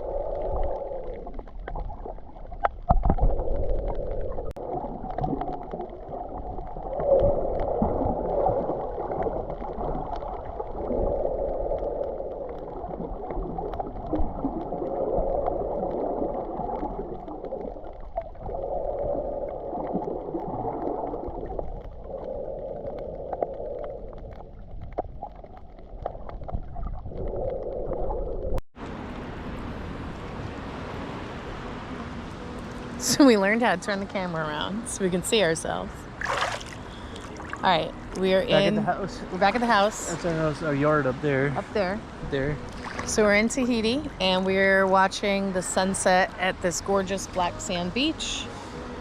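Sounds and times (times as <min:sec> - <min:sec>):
muffled underwater water movement: 0:00.0 - 0:49.0.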